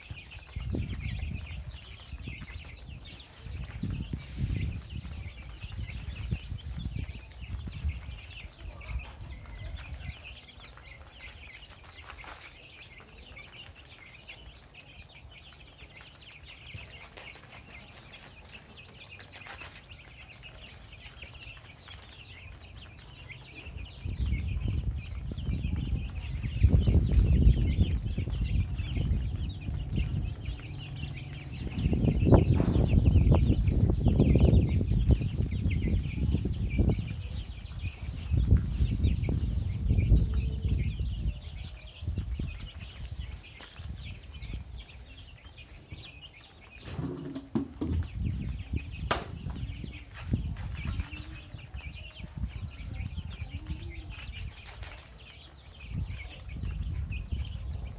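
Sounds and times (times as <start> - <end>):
baby chicks peeping: 0.0 - 57.9.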